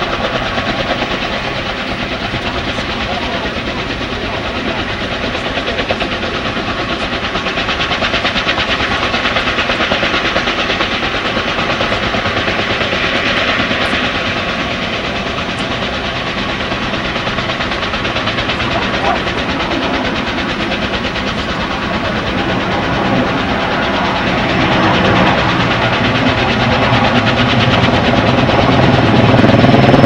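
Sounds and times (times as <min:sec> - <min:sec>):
helicopter rotor chop: 0:00.0 - 0:30.0.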